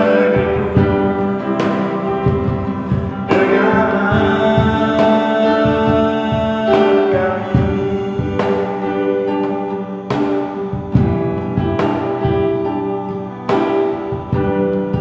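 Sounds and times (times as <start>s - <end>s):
cajon: 0.0s - 15.0s
keyboard sustained chords: 0.0s - 15.0s
man singing: 0.0s - 15.0s
strummed acoustic guitar: 0.0s - 15.0s.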